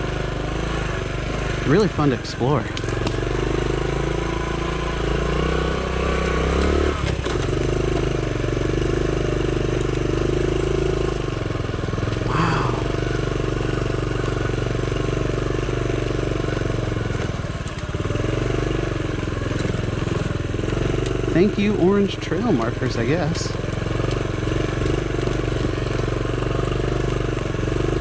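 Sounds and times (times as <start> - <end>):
small motorbike engine running: 0.0 - 28.0.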